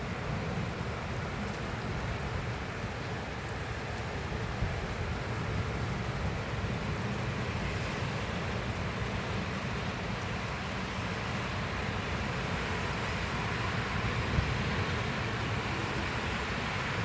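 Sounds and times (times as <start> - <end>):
steady rain falling: 0.0 - 17.0
wind rumble on microphone: 0.0 - 17.0.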